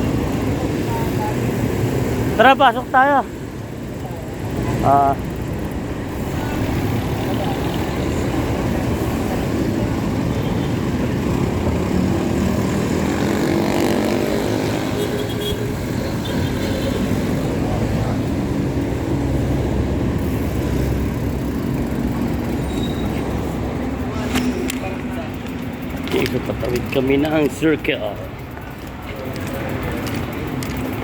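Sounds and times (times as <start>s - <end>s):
vehicle engines: 0.0s - 31.0s.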